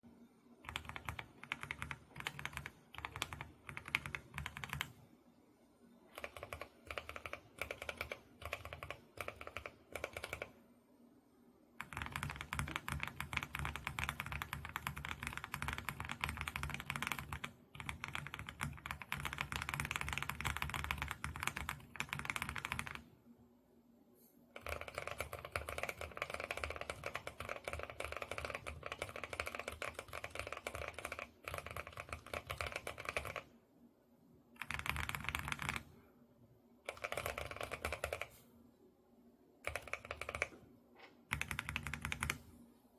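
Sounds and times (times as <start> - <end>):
typing on mechanical keyboard: 0.6 - 5.0, 6.1 - 10.6, 11.8 - 23.1, 24.6 - 33.5, 34.6 - 36.0, 36.8 - 38.4, 39.6 - 42.5.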